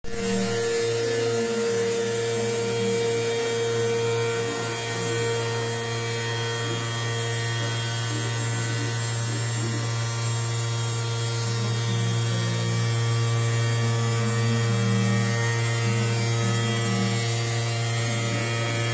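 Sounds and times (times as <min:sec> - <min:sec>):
cnc machine hum and whine: 0:00.0 - 0:18.9.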